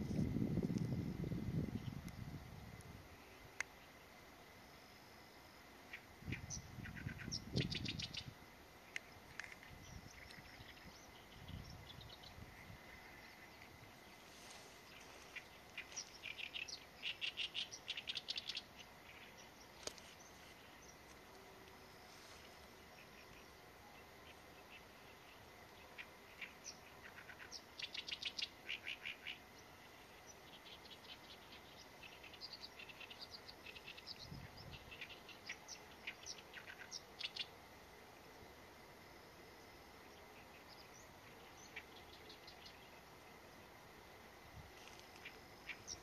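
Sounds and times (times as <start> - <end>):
reed warbler singing: 5.8 - 37.7, 39.6 - 43.9, 44.6 - 46.0.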